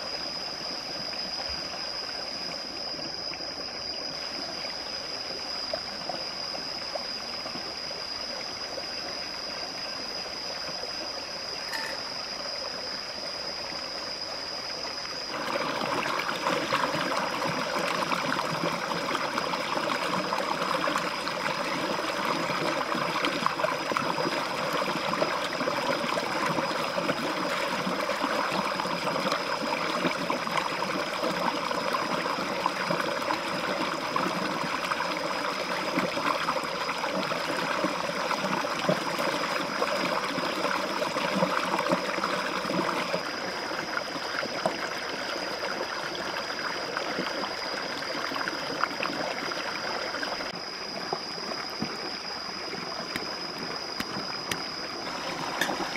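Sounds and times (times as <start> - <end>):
steady high-pitched whine: 0.0 - 55.9
stream running over rocks: 0.0 - 55.9.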